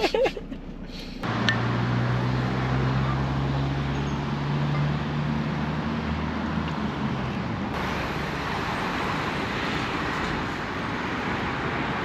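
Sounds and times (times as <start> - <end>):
low engine hum: 0.0 - 12.0
vehicle road noise: 0.0 - 12.0.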